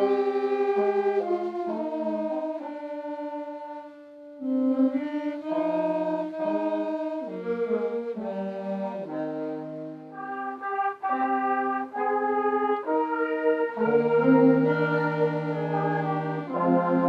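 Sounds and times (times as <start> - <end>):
brass ensemble playing chords: 0.0 - 17.0.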